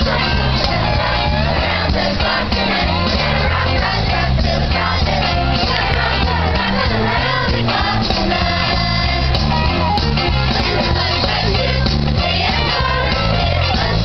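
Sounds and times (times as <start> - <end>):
chorus singing: 0.0 - 14.0
instrumental accompaniment with bass: 0.0 - 14.0.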